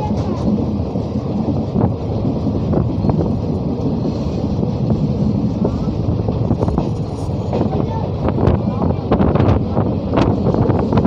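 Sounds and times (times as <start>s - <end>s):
rail joint clicks: 0.0s - 11.0s
train wheels rumbling on rail: 0.0s - 11.0s.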